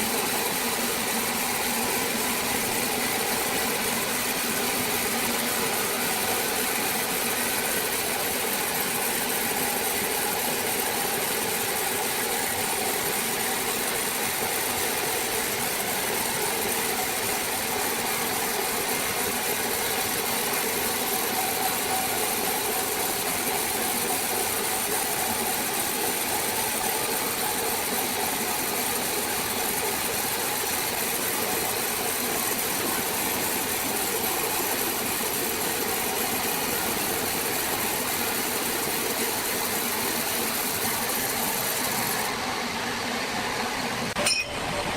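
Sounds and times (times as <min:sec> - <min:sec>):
power saw running: 0:00.0 - 0:42.6.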